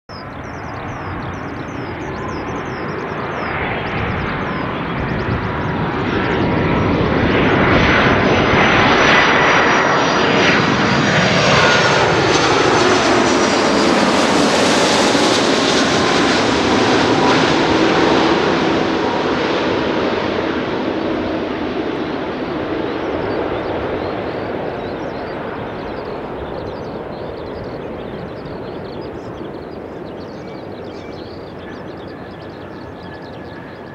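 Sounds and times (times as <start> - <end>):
jet airliner flying overhead: 0.1 - 33.9
jet engine rumble: 0.1 - 33.9
jet engine whine: 0.1 - 33.9.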